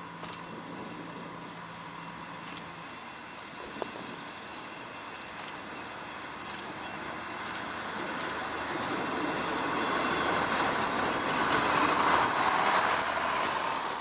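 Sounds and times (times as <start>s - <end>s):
rail motor running: 0.0s - 14.0s.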